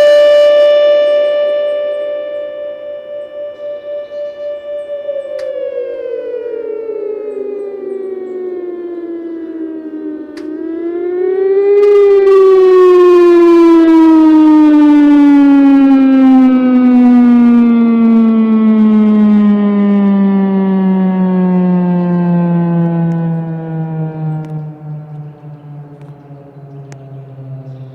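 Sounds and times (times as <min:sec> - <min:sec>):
siren click: 0:00.0 - 0:27.9
siren winding down: 0:00.0 - 0:27.9.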